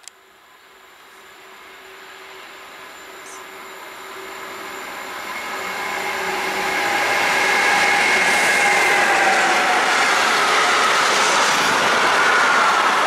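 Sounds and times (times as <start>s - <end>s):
high locomotive whine: 0.0s - 13.0s
electric locomotive rumble: 0.4s - 13.0s.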